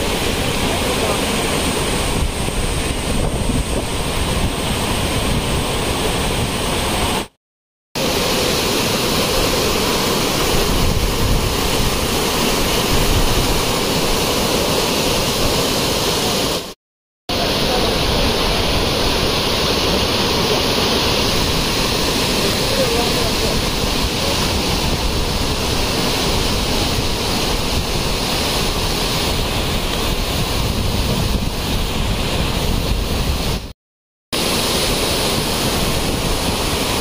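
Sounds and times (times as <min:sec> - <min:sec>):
stream rushing over boulders: 0:00.0 - 0:07.4, 0:08.0 - 0:33.7, 0:34.4 - 0:37.0.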